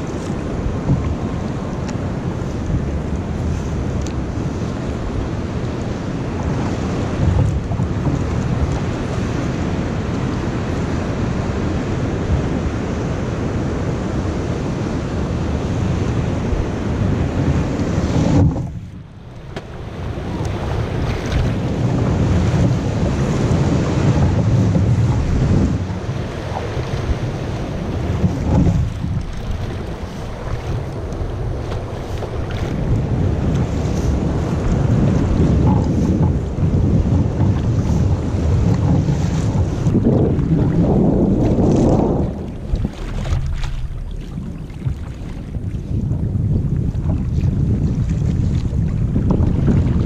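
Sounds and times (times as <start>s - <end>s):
water rushing along kayak hull: 0.0s - 50.0s
wind buffeting microphone: 0.0s - 50.0s.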